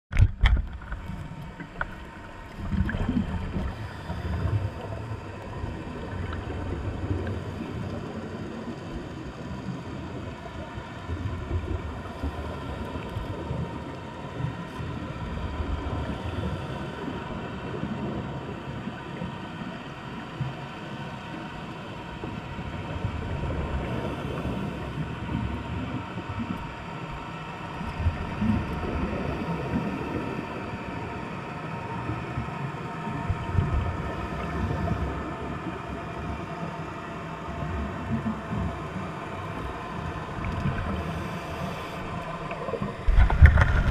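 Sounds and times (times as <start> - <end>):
faint steady hum: 0.1 - 43.9
underwater rumble of moving water: 0.1 - 43.9.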